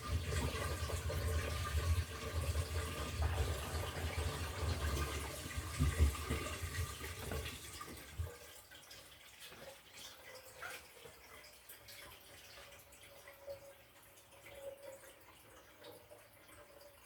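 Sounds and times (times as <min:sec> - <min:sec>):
water sloshing in washing machine: 0:00.0 - 0:16.8
water dripping: 0:00.0 - 0:17.0.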